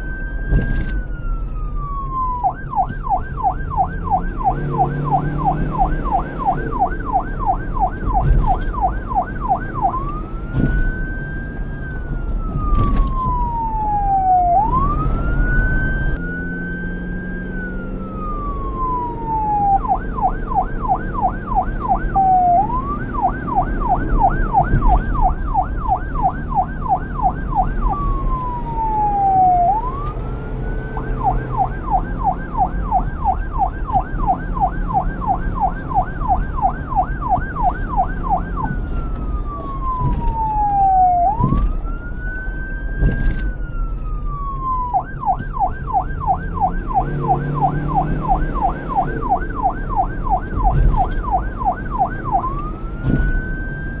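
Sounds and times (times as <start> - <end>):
police siren wailing and yelping: 0.0 - 54.0.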